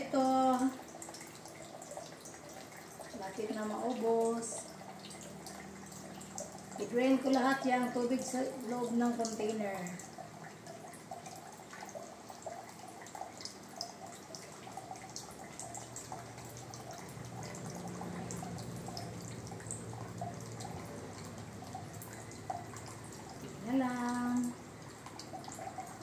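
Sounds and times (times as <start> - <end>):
low steady hum: 0.0 - 26.0
water trickling into a pitcher: 0.0 - 26.0.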